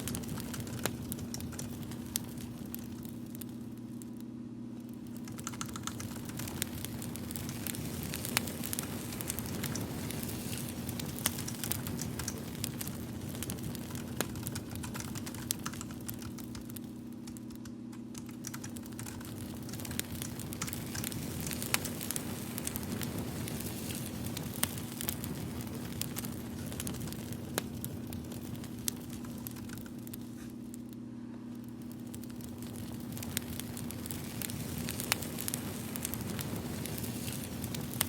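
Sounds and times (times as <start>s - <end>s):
fire crackling with pops: 0.0s - 38.0s
steady low hum: 0.0s - 38.0s.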